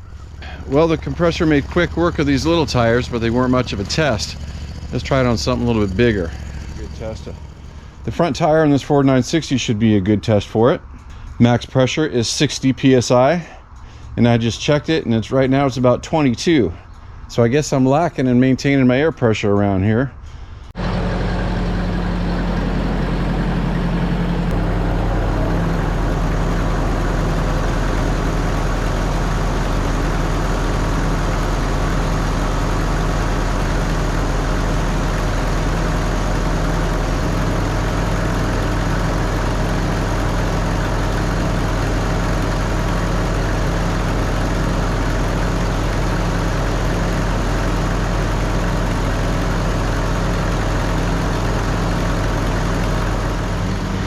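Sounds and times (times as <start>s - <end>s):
air compressor droning: 0.0s - 17.8s, 20.1s - 54.0s.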